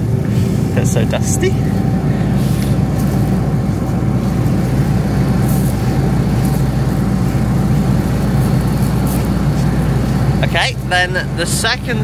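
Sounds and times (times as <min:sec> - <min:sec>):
diesel engine idling: 0:00.0 - 0:12.0
faint steady whine: 0:00.0 - 0:12.0.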